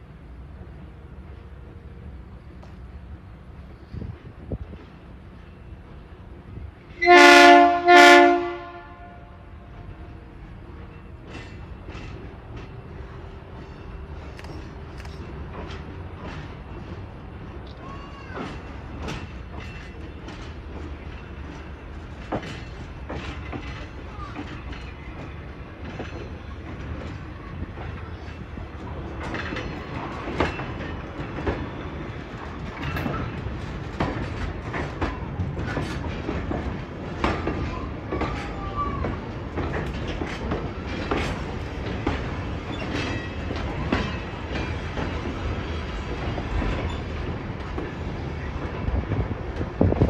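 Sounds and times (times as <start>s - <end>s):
railroad cars rumbling past: 0.0s - 50.0s
steel wheels clicking on rail joints: 9.9s - 50.0s.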